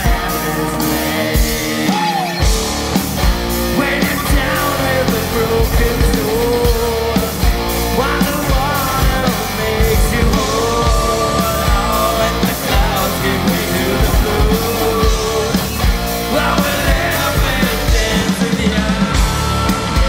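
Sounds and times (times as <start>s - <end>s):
drum beat: 0.0s - 20.0s
electric guitars: 0.0s - 20.0s.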